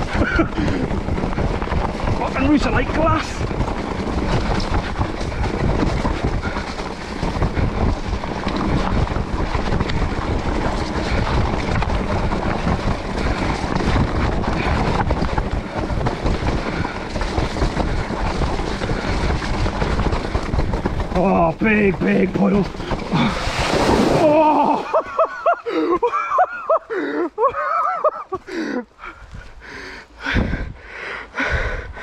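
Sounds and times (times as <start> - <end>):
bike rattling and knocking: 0.0 - 32.0
tyre and trail noise: 0.0 - 32.0.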